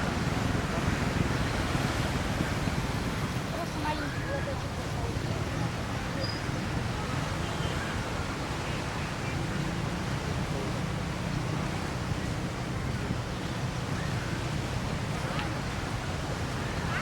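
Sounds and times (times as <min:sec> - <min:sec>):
surf rushing: 0:00.0 - 0:17.0
wind rumbling on microphone: 0:00.0 - 0:17.0.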